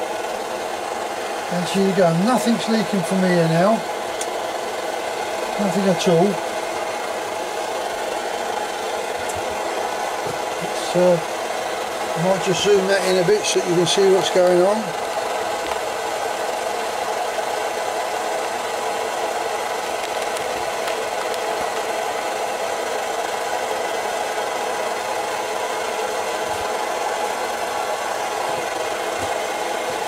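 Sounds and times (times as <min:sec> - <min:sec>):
camping stove burner rushing: 0:00.0 - 0:30.0.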